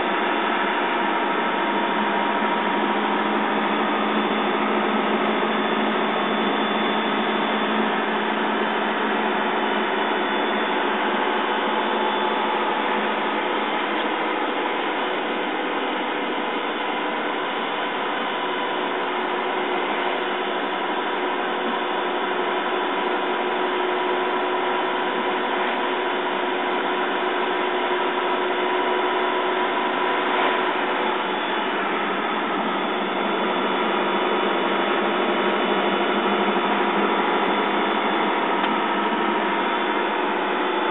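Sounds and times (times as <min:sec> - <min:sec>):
truck diesel engine drone: 0:00.0 - 0:40.9.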